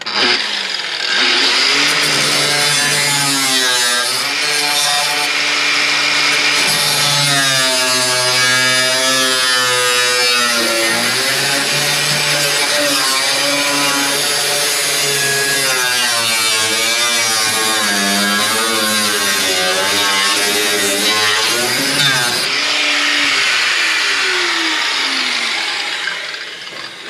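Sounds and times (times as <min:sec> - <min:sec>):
power saw cutting sheet metal: 0:00.0 - 0:27.0.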